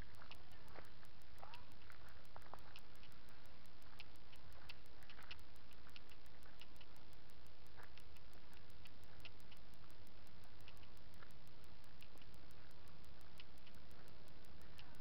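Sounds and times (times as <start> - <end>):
camera low hum: 0.0 - 15.0
faint regular ticking: 0.0 - 15.0
small clicks: 0.0 - 15.0.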